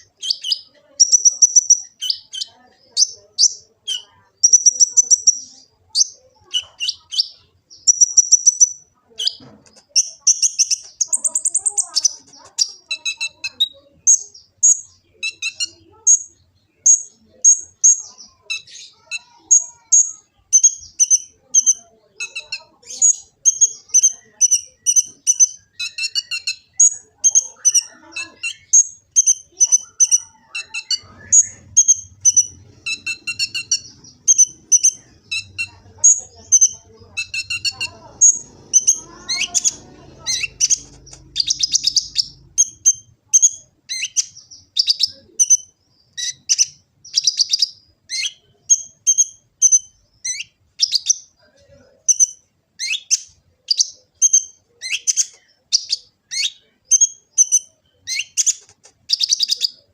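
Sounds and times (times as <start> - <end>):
bird chirping and twittering: 0.0 - 59.9.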